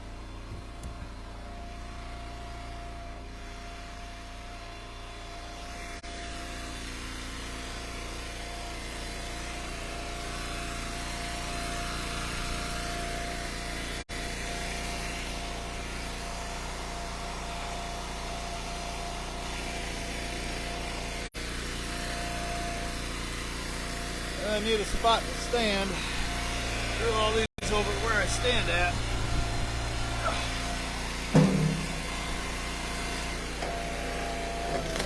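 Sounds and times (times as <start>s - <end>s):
gas engine running: 0.0s - 35.0s.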